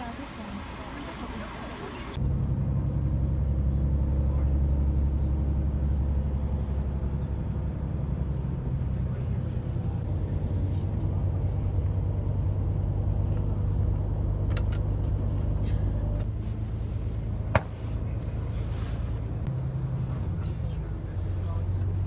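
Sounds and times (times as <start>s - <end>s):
coach engine drone: 0.0s - 22.0s.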